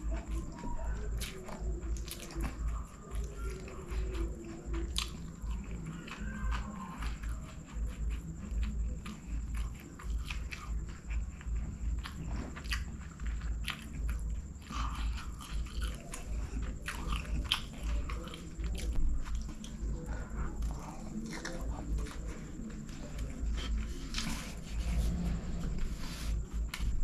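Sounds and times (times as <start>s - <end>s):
close-miked chewing: 0.0s - 27.0s.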